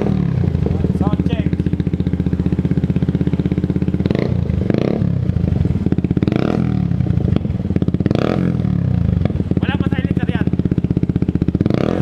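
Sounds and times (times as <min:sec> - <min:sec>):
engine revving: 0:00.0 - 0:12.0
motorcycle engine idling: 0:00.0 - 0:12.0.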